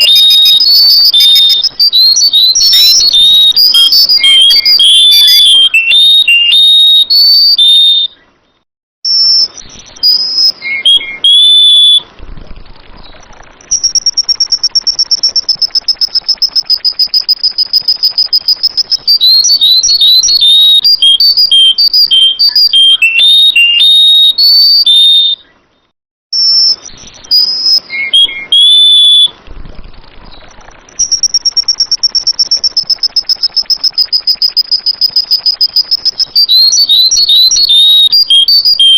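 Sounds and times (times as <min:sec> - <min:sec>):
bird whistling notes: 0:00.0 - 0:08.3, 0:09.1 - 0:12.1, 0:13.0 - 0:25.5, 0:26.4 - 0:29.4, 0:30.3 - 0:38.9
bird high-pitched trill: 0:00.0 - 0:38.9.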